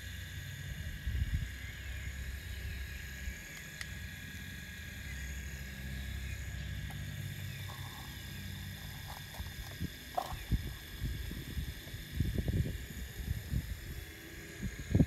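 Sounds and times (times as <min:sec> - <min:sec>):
faint high whine: 0:00.0 - 0:15.0
model excavator motors humming: 0:00.0 - 0:15.0.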